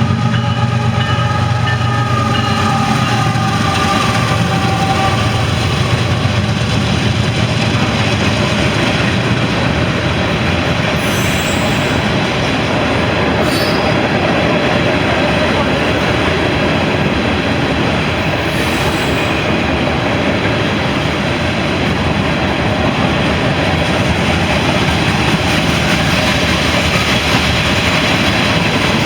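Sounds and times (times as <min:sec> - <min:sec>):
freight train wheels clattering: 0:00.0 - 0:29.0.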